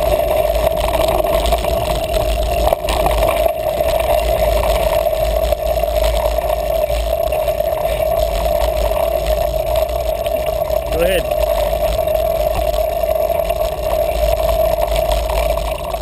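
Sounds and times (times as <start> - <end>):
mountain bike riding rumble: 0.0 - 16.0
steady hum: 0.0 - 16.0.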